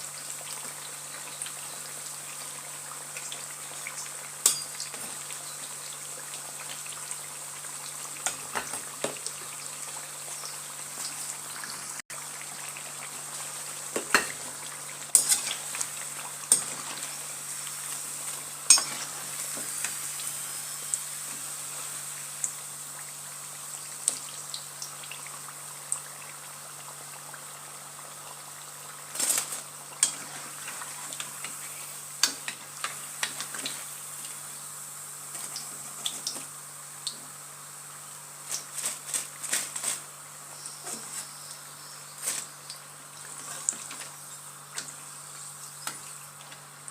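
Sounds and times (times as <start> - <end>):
potato slices sizzling in oil: 0.0 - 46.9.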